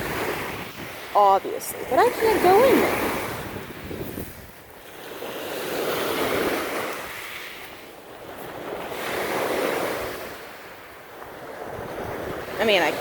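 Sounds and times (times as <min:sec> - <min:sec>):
waves breaking on rocky shore: 0:00.0 - 0:13.0.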